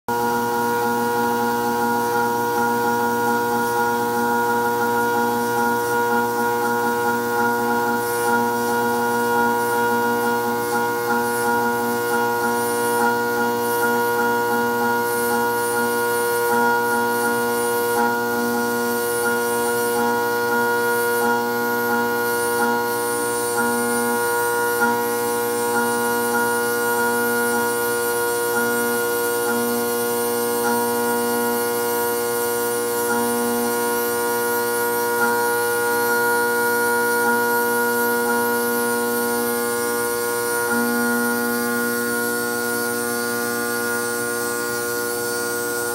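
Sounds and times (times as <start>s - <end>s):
milling machine spindle whine: 0.1s - 45.9s.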